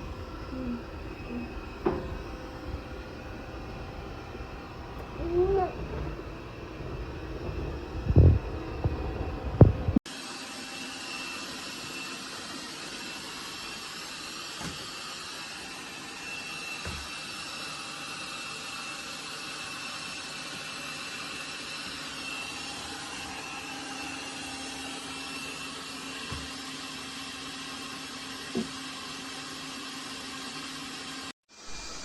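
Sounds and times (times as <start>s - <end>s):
robot vacuum whirring: 0.0s - 32.0s.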